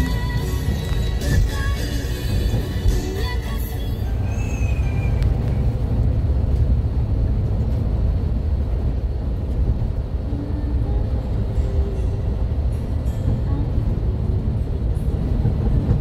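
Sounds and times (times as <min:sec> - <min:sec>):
coach engine and road noise: 0:00.0 - 0:16.0.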